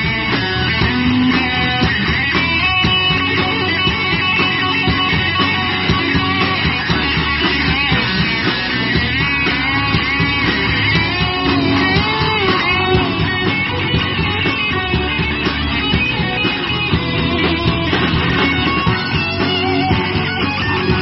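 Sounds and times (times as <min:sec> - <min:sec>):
drum beat: 0:00.0 - 0:21.0
electric guitars: 0:00.0 - 0:21.0
live rock band: 0:00.0 - 0:21.0.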